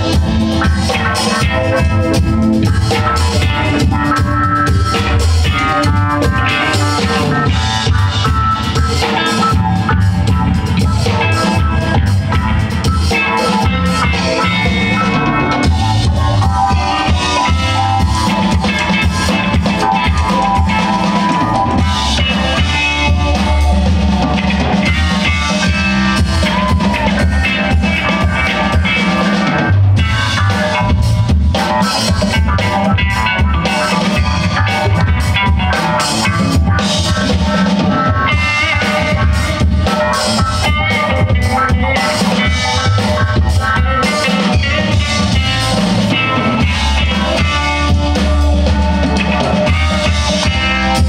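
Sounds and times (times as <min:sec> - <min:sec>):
live funk band playing: 0:00.0 - 0:51.0.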